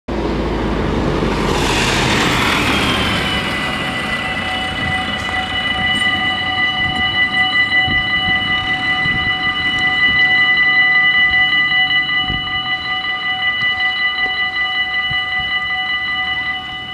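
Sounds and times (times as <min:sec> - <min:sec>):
tractor engine rumble: 0:00.1 - 0:15.7
crossing warning bells ringing: 0:00.1 - 0:16.9
falling whine: 0:00.1 - 0:16.9.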